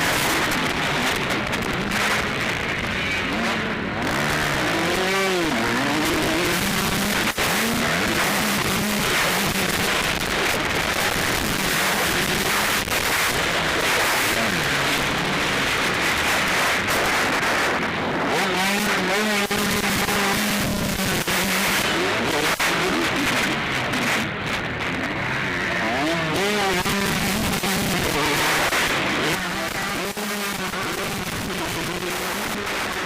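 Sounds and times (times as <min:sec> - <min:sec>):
loud harsh noise: 0:00.0 - 0:33.0.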